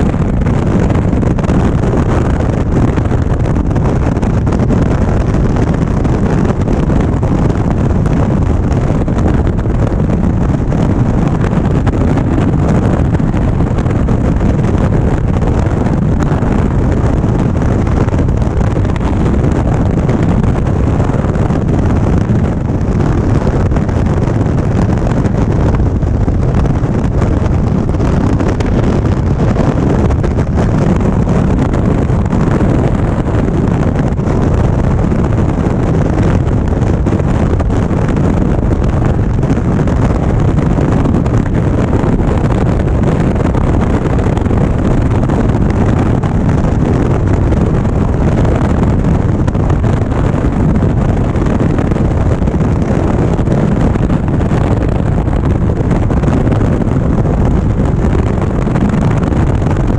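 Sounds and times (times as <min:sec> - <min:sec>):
motorcycle engine and road rumble: 0:00.0 - 0:59.9
wind rushing over microphone: 0:00.0 - 0:59.9.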